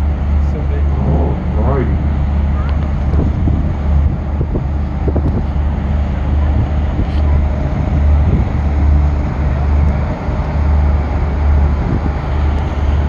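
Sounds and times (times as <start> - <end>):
ship diesel drone: 0.0 - 13.0
wind on microphone: 0.0 - 13.0.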